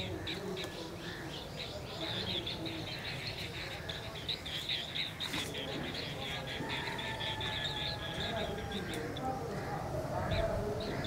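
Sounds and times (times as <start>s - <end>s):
birds trilling calls: 0.0s - 11.0s.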